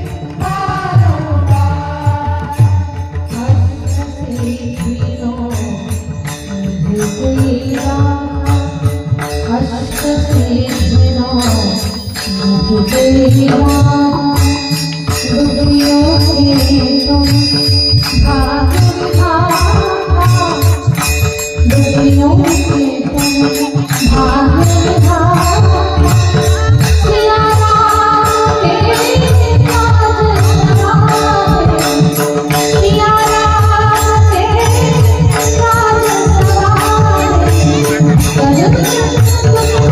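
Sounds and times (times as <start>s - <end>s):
steady drum beats: 0.0s - 39.9s
woman singing: 0.0s - 39.9s.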